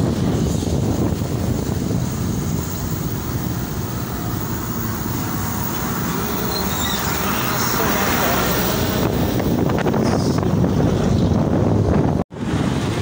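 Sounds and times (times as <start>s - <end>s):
heavy trucks passing: 0.0s - 13.0s
wind noise: 0.0s - 13.0s.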